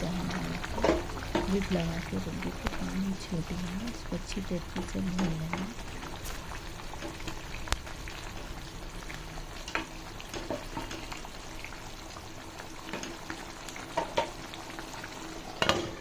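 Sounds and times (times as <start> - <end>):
curry sizzling in a pan: 0.0 - 16.0.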